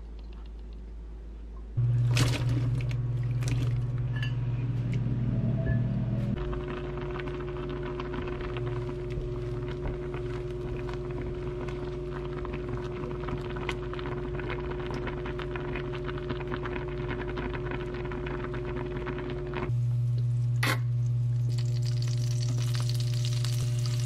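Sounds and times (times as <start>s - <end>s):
constant low hum: 0.0s - 24.0s
water boiling with popping bubbles: 1.8s - 4.1s, 6.4s - 24.0s.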